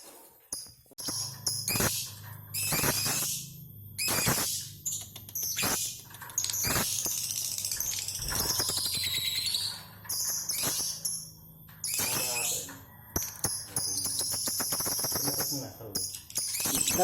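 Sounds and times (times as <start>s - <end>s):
lovebirds chattering: 1.0s - 17.0s.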